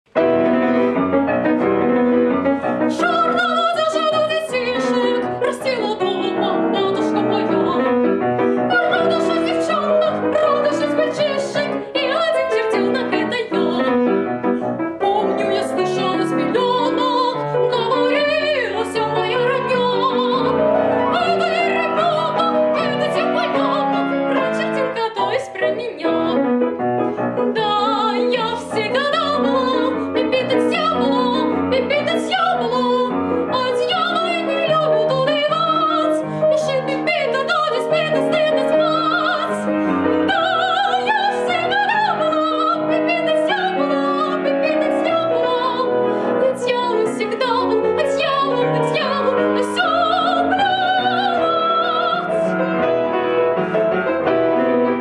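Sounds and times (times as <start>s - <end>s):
piano accompaniment: 0.0s - 55.0s
woman singing with vibrato: 2.7s - 14.2s, 15.0s - 26.5s, 27.4s - 52.6s.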